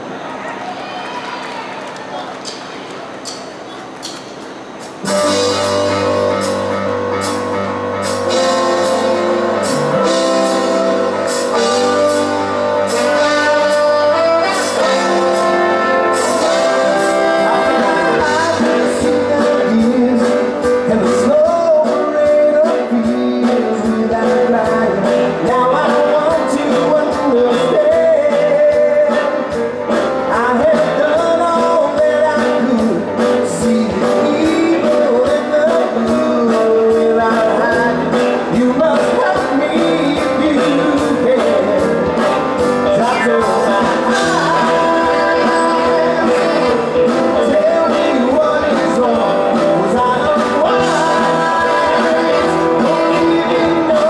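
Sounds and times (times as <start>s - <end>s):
live rock band with horns: 4.6s - 54.0s
person singing: 5.1s - 54.0s.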